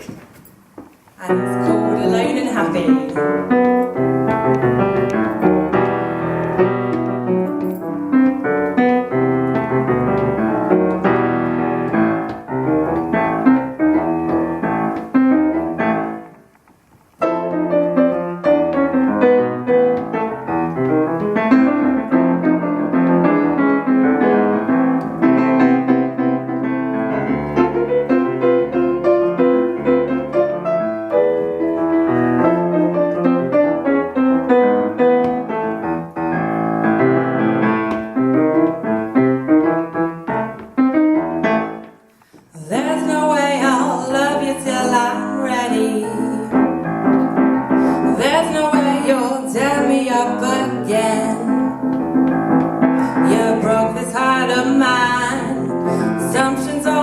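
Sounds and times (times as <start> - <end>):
piano playing: 0.0 - 57.0.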